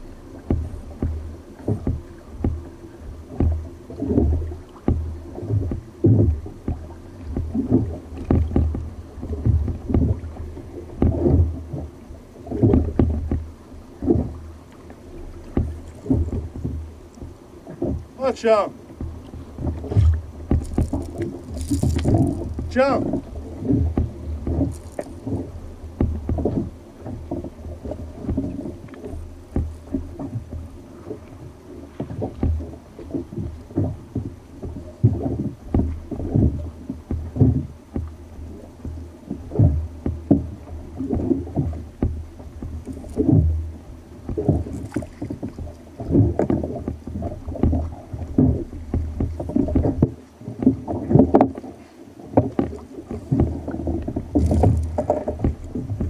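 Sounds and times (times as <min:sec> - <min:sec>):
small waves slapping kayak hull: 0:00.0 - 0:56.0.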